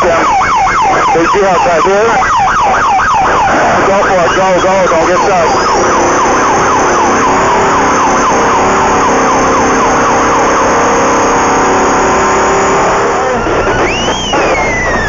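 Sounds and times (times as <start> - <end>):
falling siren yelp: 0.0 - 15.0
race engine running hard: 0.0 - 15.0
rising and falling tone: 0.0 - 15.0.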